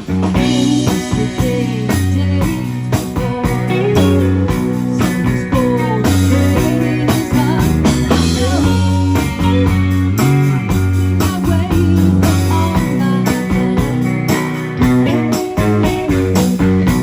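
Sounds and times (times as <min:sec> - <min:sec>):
bending lead guitar line: 0:00.0 - 0:17.0
rock band playing: 0:00.0 - 0:17.0.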